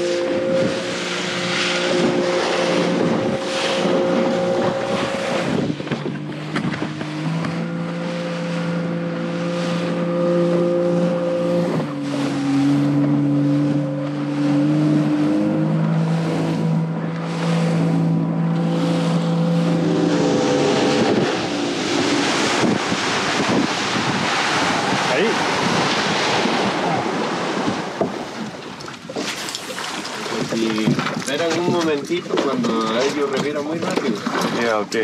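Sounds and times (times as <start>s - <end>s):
outboard motor running: 0.0s - 35.0s
water spray from moving hull: 0.0s - 35.0s
wind: 0.0s - 35.0s.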